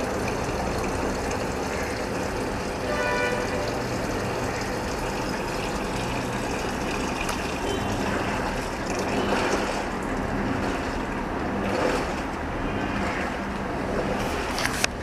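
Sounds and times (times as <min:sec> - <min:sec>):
washing machine motor hum: 0:00.0 - 0:15.0
water churning in washing machine: 0:00.0 - 0:15.0.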